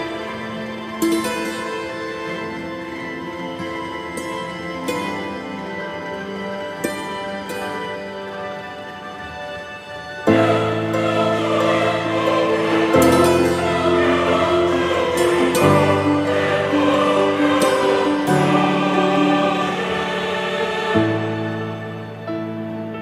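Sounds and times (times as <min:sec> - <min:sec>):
choir-like sustained chords: 0:00.0 - 0:23.0.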